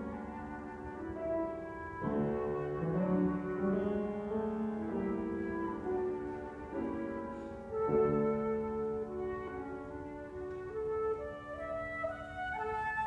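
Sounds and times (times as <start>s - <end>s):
flute sustained notes: 0.0s - 13.0s
piano chords: 0.0s - 13.0s.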